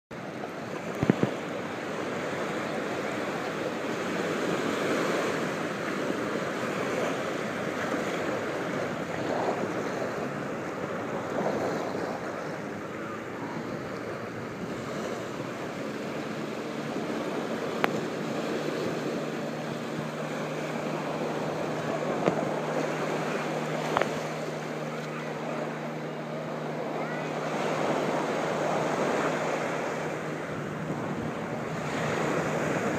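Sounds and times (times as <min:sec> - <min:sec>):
waves breaking on beach: 0:00.1 - 0:32.9
wind buffeting microphone: 0:00.4 - 0:24.9, 0:25.5 - 0:32.9.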